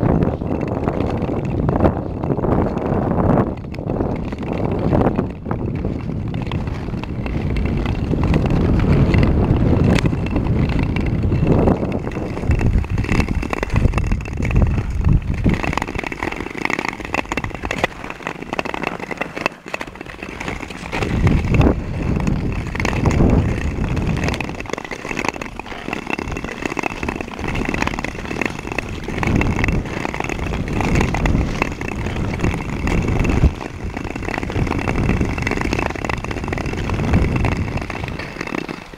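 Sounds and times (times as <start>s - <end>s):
ice skates scraping on ice: 0.0s - 38.9s
wind rumble on microphone: 0.0s - 38.9s.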